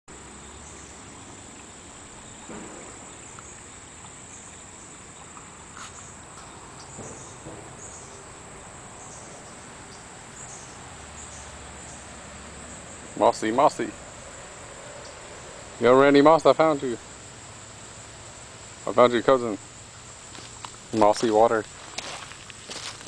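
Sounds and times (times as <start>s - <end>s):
insects trilling: 0.1s - 23.0s
low outdoor hiss: 0.1s - 23.0s.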